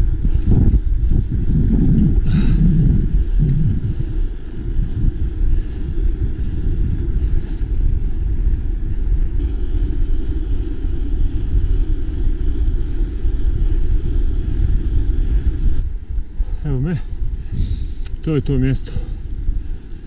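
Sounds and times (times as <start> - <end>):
bike tyres rolling on road: 0.0 - 20.0
wind buffeting microphone: 0.0 - 20.0.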